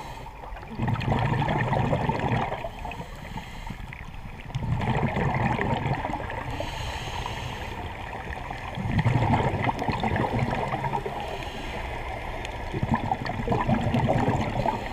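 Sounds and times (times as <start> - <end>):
underwater regulator bubbling: 0.0 - 14.9.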